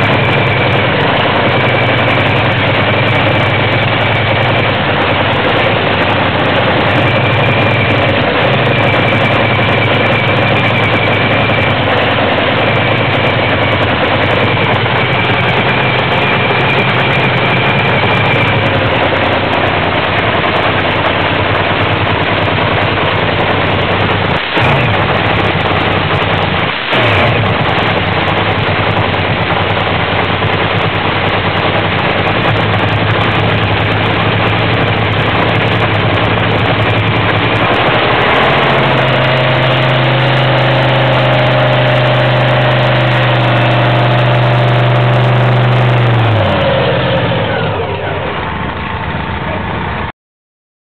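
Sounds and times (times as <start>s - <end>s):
loud racing engine revving: 0.0s - 50.0s.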